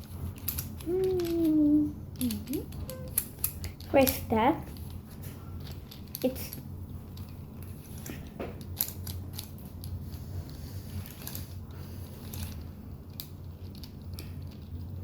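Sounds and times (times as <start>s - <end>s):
puzzle cube clicking and scraping: 0.0s - 15.0s.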